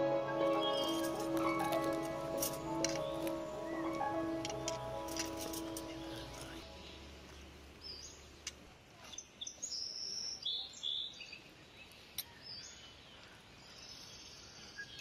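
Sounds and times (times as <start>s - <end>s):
birds chirping: 0.0s - 15.0s
faint background noise: 0.0s - 15.0s.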